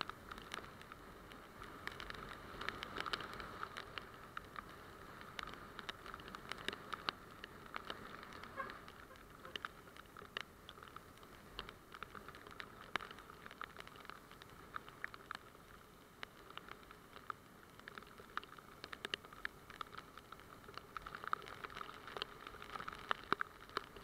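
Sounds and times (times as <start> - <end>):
rain and road spray hiss: 0.0 - 24.0
raindrops tapping on camera: 0.0 - 24.0.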